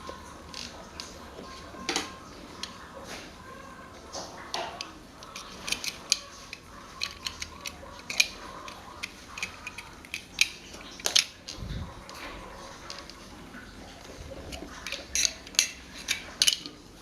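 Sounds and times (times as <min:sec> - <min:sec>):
small hard parts clicking: 0:00.0 - 0:02.8, 0:04.5 - 0:13.3, 0:13.9 - 0:16.8.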